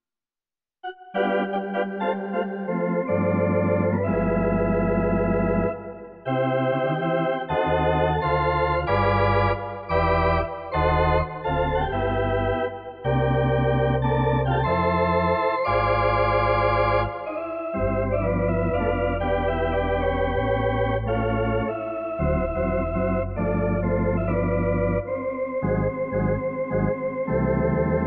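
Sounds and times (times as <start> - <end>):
organ chords on keyboard: 0.8 - 28.0.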